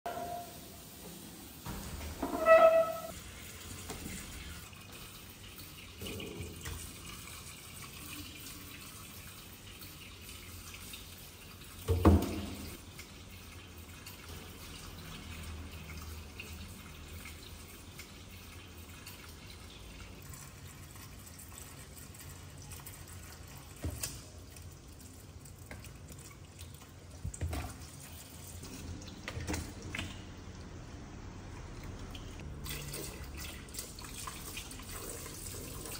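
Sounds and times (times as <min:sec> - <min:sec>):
tap water running into sink: 0:00.1 - 0:30.2.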